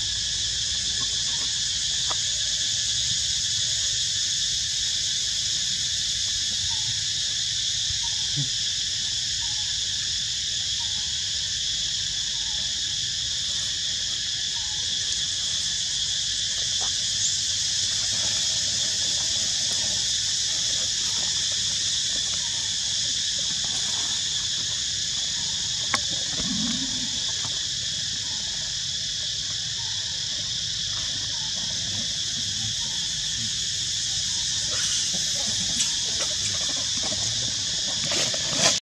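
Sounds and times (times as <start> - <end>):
high-pitched insect chorus: 0.0 - 38.8.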